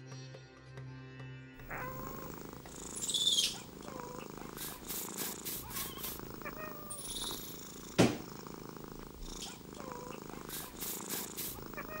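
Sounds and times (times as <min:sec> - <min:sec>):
cat purring: 0:01.6 - 0:12.0.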